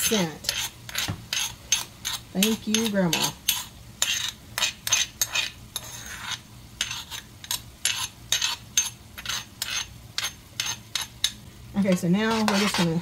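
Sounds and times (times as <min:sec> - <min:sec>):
metal spoon scraping stone bowl: 0:00.0 - 0:13.0.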